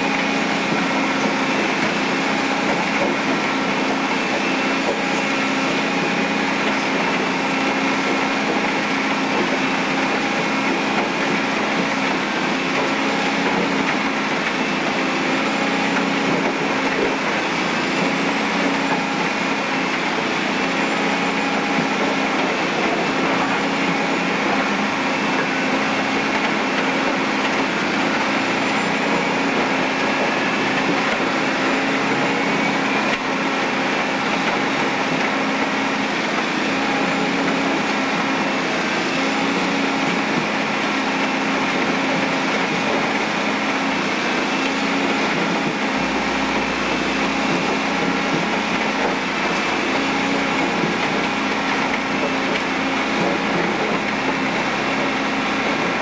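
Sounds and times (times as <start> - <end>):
shredder grinding asphalt: 0.0 - 56.0.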